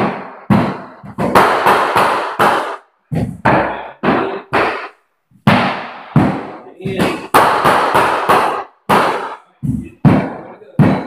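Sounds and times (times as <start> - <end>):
wooden floorboards knocking: 0.0 - 7.5, 8.4 - 11.0.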